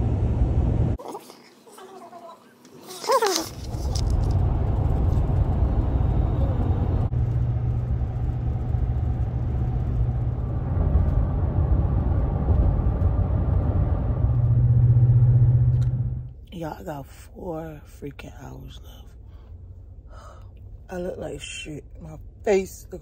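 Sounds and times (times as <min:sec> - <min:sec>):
road and engine noise in cab: 0:00.0 - 0:01.0, 0:03.3 - 0:23.0.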